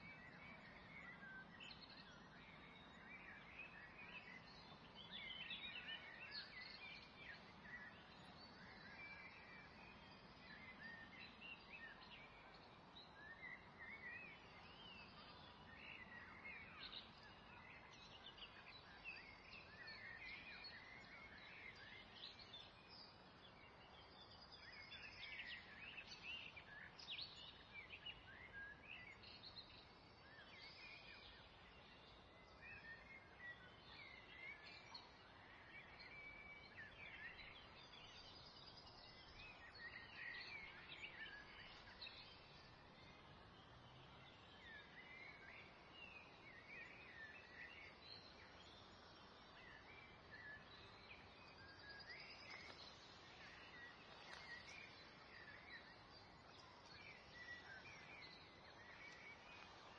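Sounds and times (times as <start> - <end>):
faint birds chirping: 0.0 - 59.9
low steady hiss: 0.0 - 59.9.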